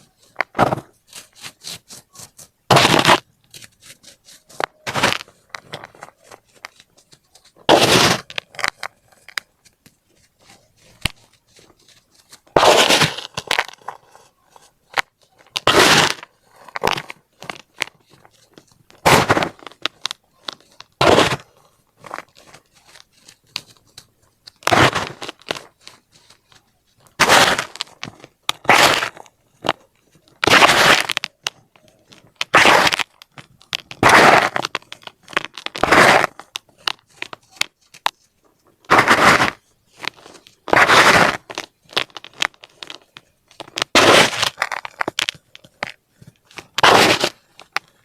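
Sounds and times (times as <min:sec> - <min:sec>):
small crackles and crumbling: 0:00.0 - 0:48.0.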